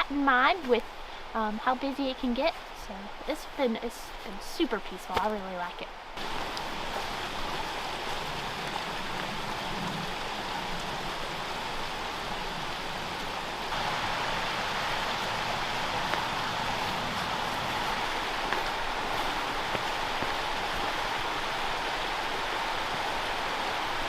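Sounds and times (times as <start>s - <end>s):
stream water rushing: 2.6s - 24.0s.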